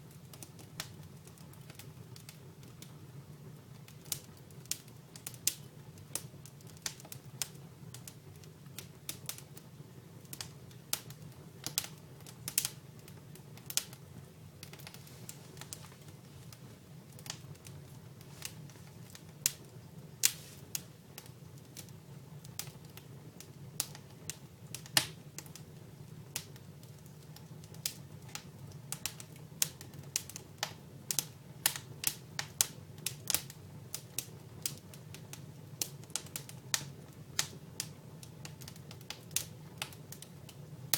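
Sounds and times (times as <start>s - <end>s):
firewood crackling and popping: 0.0s - 40.9s.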